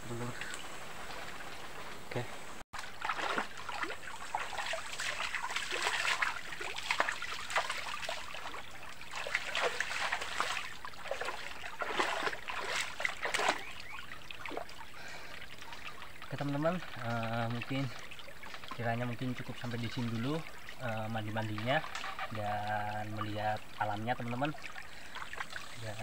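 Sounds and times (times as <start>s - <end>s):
stream trickling: 0.0s - 26.0s
water splashing: 0.0s - 26.0s.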